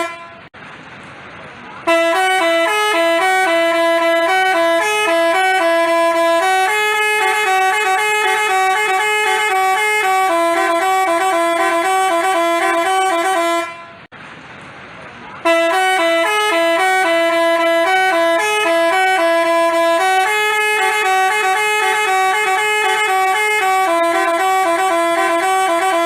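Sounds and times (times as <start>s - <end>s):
musical bus horn tune: 0.0s - 0.5s, 1.8s - 14.1s, 15.4s - 26.0s.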